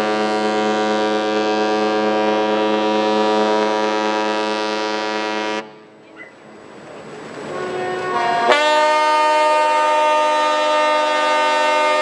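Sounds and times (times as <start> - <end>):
ship's horn blast: 0.0 - 6.5, 7.4 - 12.0.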